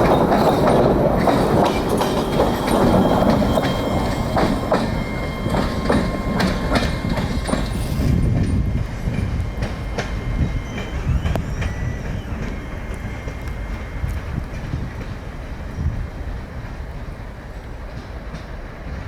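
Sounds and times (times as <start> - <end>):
faint steady wheel tones: 0.0 - 19.0
railcars rumbling past: 0.0 - 19.0
wheels clicking over rail joints: 0.0 - 19.0.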